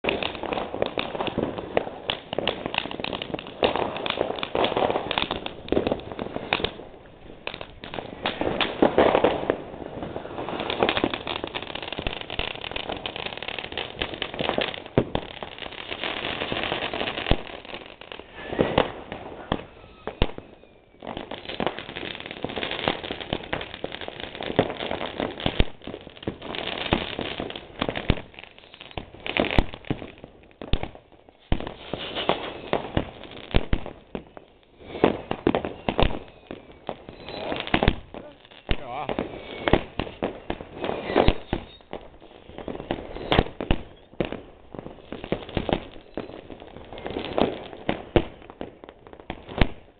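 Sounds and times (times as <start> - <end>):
fireworks crackling and banging: 0.0 - 49.9.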